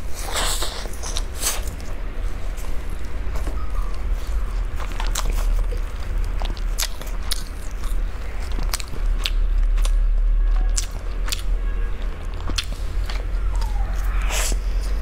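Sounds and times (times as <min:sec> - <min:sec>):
flatbread crunching: 0:00.0 - 0:15.0
steady low hum: 0:00.0 - 0:15.0.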